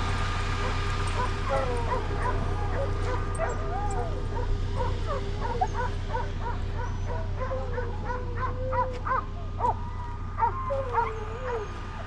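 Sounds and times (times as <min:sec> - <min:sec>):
dogs baying and yelping: 0:00.3 - 0:12.0.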